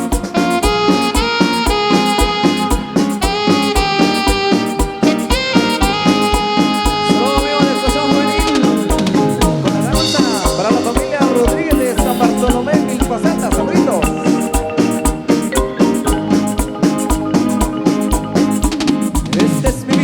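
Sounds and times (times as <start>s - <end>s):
latin dance music with brass: 0.0s - 20.0s.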